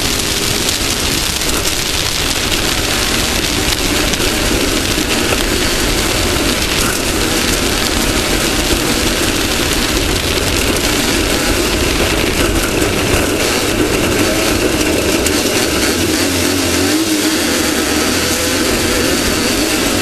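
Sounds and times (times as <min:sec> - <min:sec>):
broadband noise wash: 0:00.0 - 0:20.0
race car engine running: 0:00.0 - 0:20.0.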